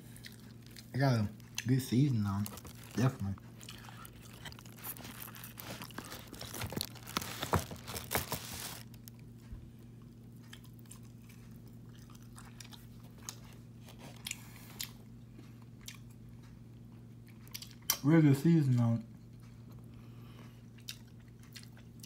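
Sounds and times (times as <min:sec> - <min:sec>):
chewing crunchy chicken skin: 0:00.0 - 0:18.0, 0:19.2 - 0:22.0.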